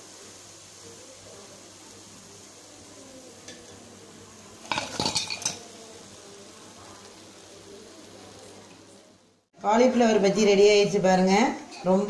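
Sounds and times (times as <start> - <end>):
faint steady background noise: 0.0 - 12.0.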